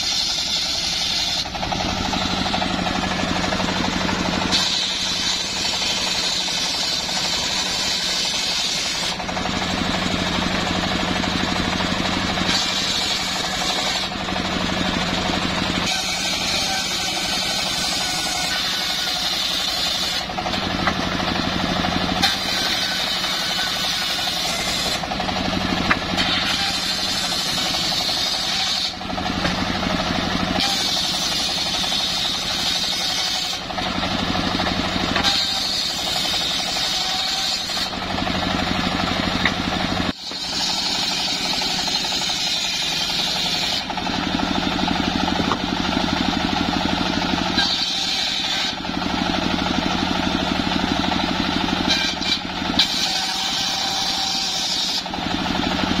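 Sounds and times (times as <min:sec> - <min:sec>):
circular saw blade cutting log: 0:00.0 - 0:56.0
saw drive droning: 0:00.0 - 0:56.0.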